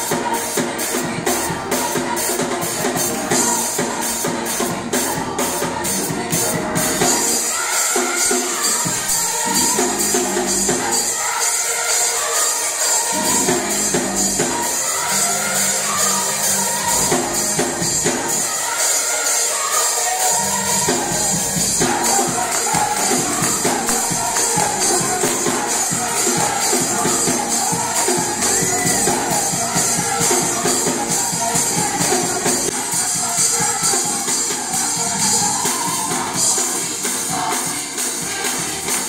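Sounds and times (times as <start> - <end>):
gospel choir singing: 0.0 - 39.0
instrumental accompaniment with beat: 0.0 - 39.0.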